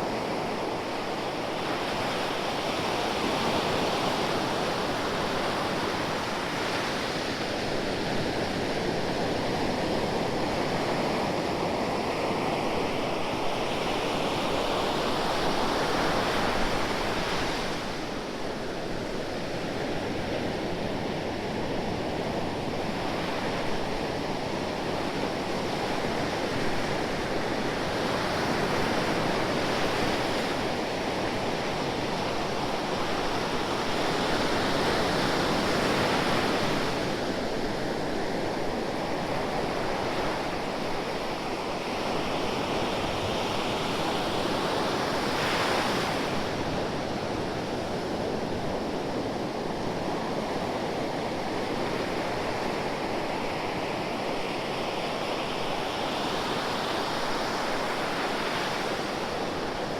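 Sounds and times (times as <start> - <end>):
ocean waves surf: 0.0 - 59.9.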